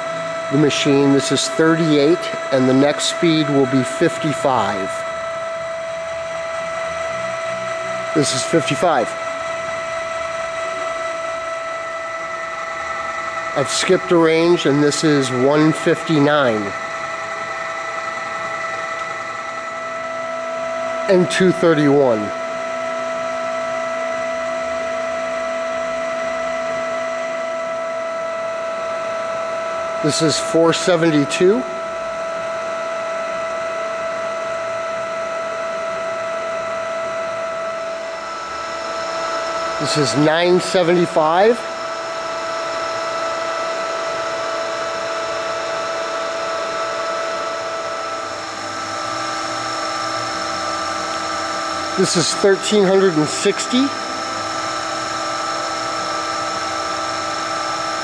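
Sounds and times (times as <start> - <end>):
drill geared head humming: 0.0 - 58.0.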